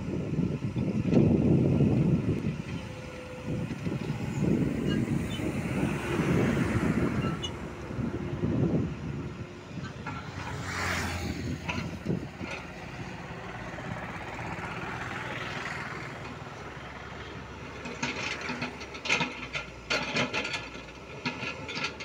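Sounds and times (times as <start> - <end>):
excavator diesel engine rumble: 0.0 - 22.0.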